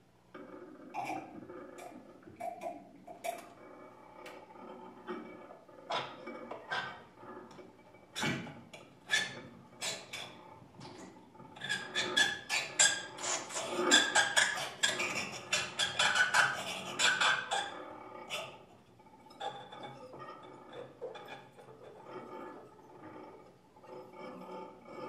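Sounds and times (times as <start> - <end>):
scratchy squeaks: 3.3 - 10.6, 11.6 - 25.0.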